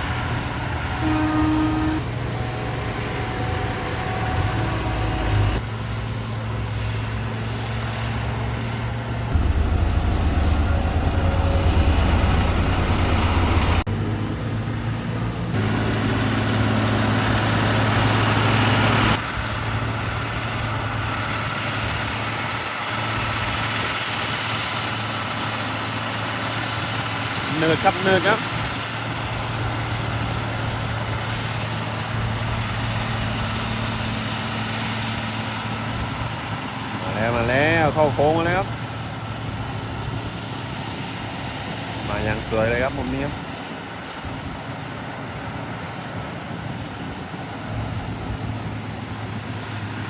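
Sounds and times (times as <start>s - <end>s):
heavy diesel machinery running: 0.0s - 50.0s.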